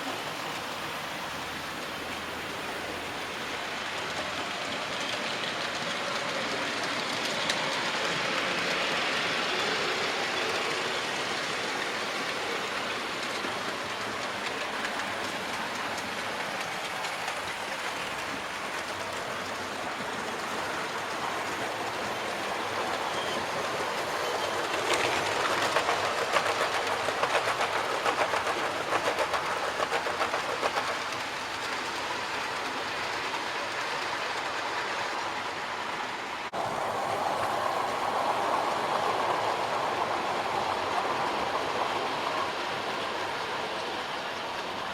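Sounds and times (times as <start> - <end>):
model train wheels rattling on rail: 0.0 - 44.9
rapid clicking of train: 0.0 - 44.9.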